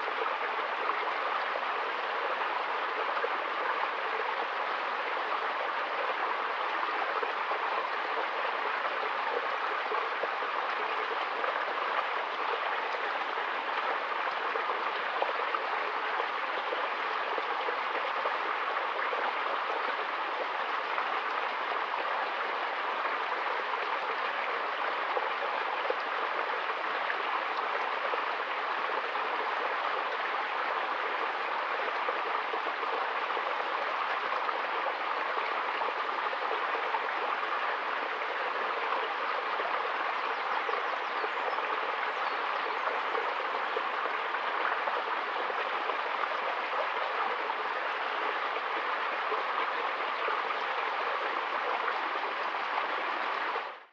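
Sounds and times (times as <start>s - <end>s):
stream running over stones: 0.0s - 53.9s.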